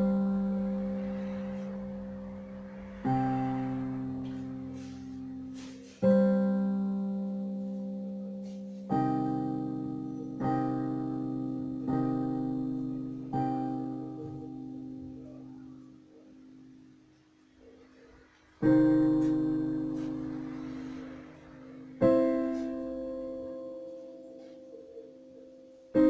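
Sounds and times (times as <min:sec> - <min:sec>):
piano chords: 0:00.0 - 0:26.0.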